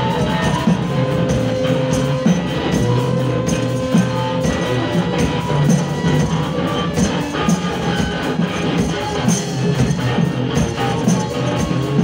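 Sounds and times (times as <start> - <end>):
low bass notes: 0.0 - 12.0
synthesizer held tone: 0.0 - 12.0.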